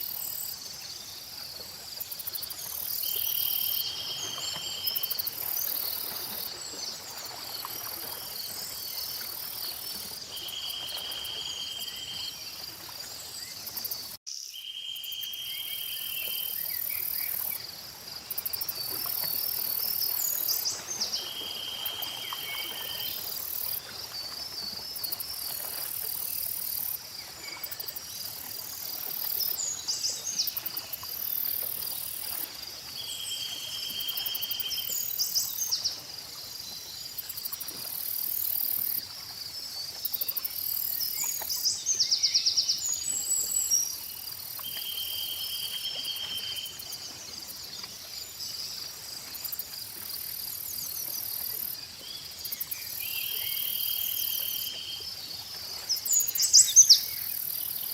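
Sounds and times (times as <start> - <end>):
crickets and insects chirping: 0.0 - 57.9.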